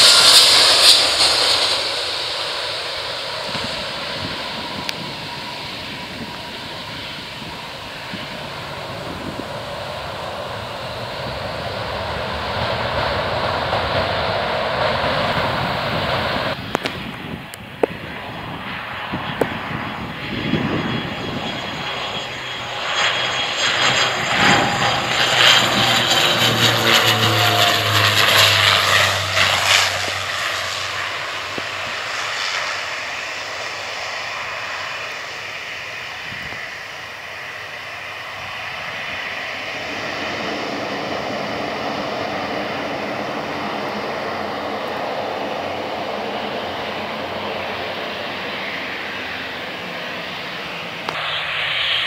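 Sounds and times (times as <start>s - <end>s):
propeller hum: 0.0s - 52.0s
turbine whine falling in pitch: 0.0s - 52.0s.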